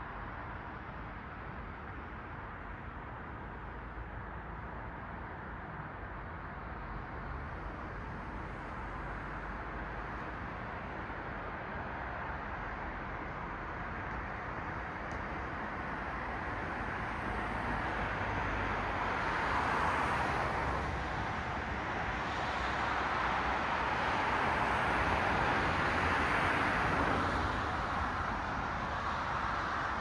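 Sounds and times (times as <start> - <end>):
cars passing on road: 0.1 - 30.0.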